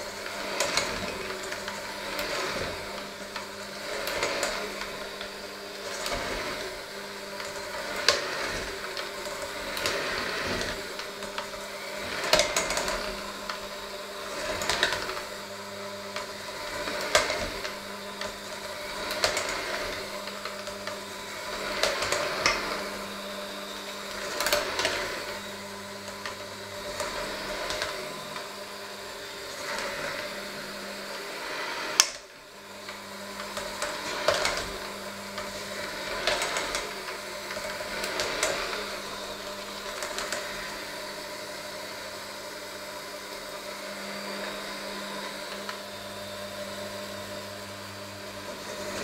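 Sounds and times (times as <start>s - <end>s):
electric hand mixer humming: 0.0s - 49.0s.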